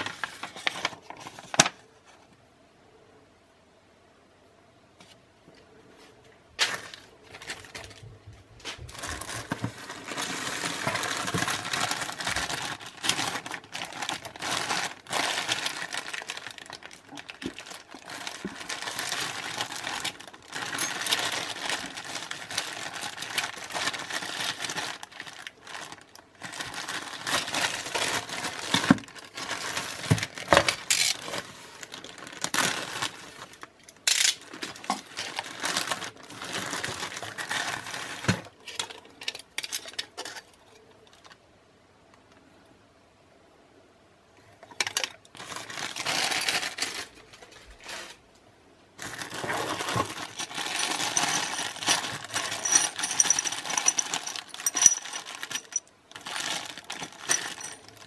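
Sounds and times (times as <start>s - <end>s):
packaging crinkling: 0.0s - 1.8s, 6.6s - 41.4s, 44.7s - 48.3s, 49.0s - 58.0s.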